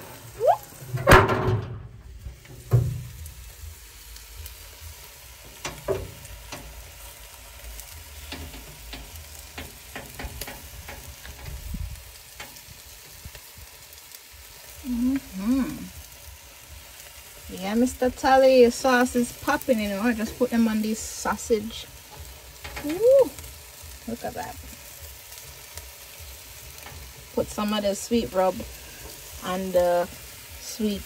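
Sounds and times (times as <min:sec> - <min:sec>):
food sizzling on a grill: 0:00.0 - 0:31.0.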